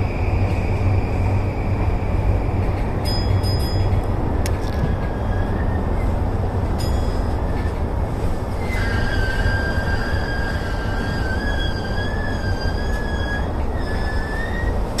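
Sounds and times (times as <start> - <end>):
electric train rumbling: 0.0 - 15.0
wheels squealing on rails: 0.0 - 15.0.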